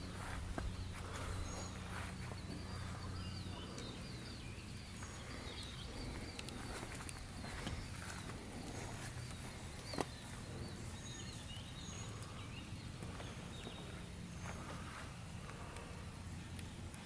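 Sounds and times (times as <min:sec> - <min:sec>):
birds chirping: 0:00.0 - 0:17.0
low steady hum: 0:00.0 - 0:17.0.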